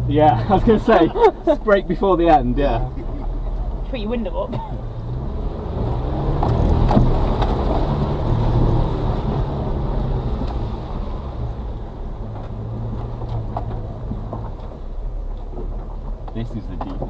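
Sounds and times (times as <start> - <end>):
truck engine pulling hard: 0.0 - 17.0.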